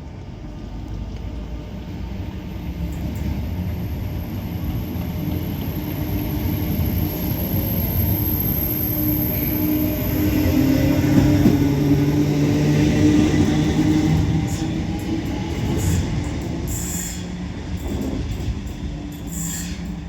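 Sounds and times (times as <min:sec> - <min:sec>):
train pulling away: 0:02.0 - 0:20.0.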